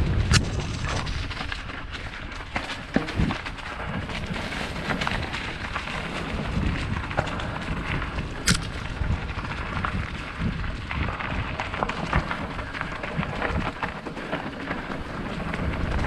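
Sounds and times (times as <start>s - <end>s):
wind on microphone: 0.0s - 2.0s, 3.0s - 13.8s, 15.0s - 16.0s
bike clicks and knocks: 0.1s - 16.0s.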